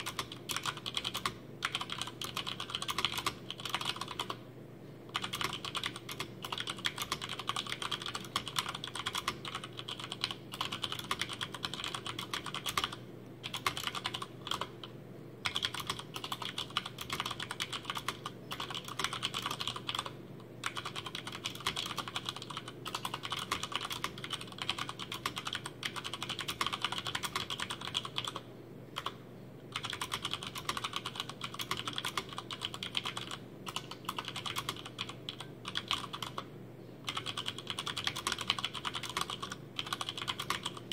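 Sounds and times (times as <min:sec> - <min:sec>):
mechanical keyboard typing: 0:00.0 - 0:04.4, 0:05.1 - 0:40.9.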